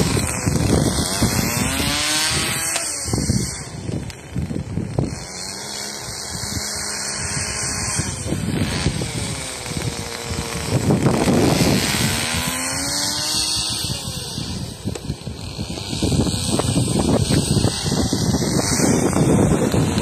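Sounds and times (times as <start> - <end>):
small model car engine running: 0.0 - 20.0.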